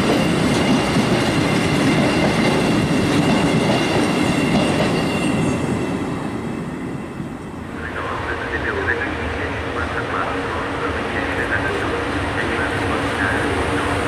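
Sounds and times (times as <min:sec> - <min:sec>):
freight wagons rumbling on rails: 0:00.0 - 0:14.0.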